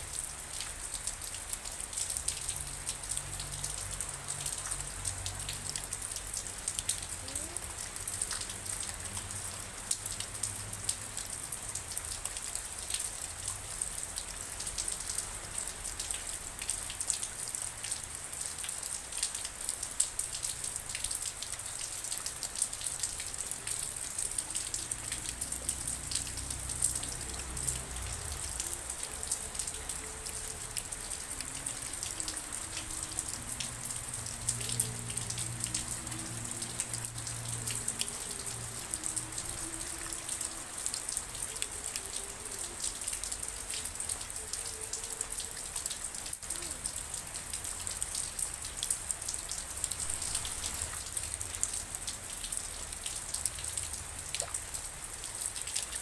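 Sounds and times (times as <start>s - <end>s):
raindrops striking a surface: 0.0s - 56.0s.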